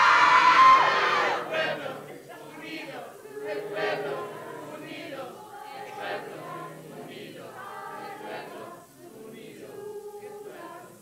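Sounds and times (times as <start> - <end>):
group of voices chanting: 0.0 - 11.0.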